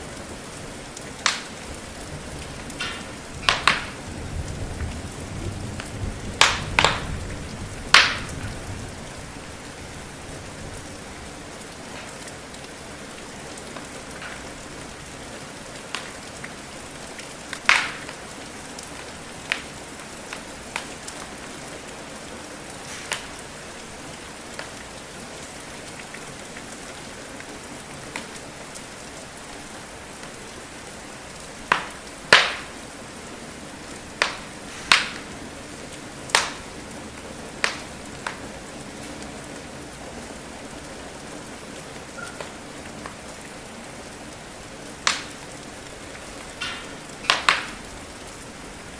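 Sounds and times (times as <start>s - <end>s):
steady rain: 0.0s - 48.9s
wood fire crackling: 0.0s - 48.9s.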